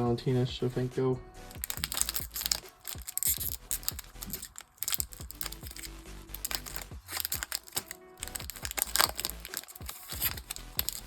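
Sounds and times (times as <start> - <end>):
background music: 0.0 - 11.0
trading cards clicking and rustling: 1.5 - 11.0.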